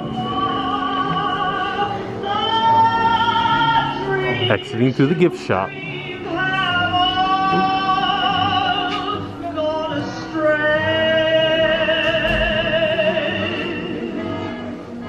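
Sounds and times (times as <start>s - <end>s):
high voice singing with vibrato: 0.0s - 14.1s
musical accompaniment: 0.0s - 15.0s.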